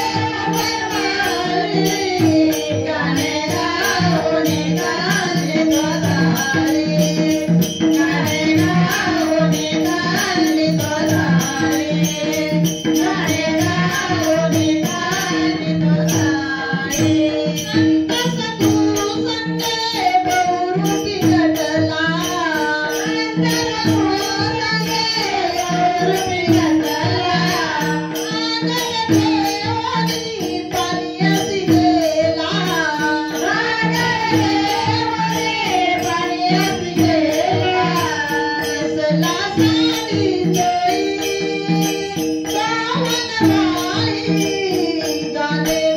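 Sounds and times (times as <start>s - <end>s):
devotional singing: 0.0s - 45.9s
jingling hand percussion: 0.0s - 45.9s.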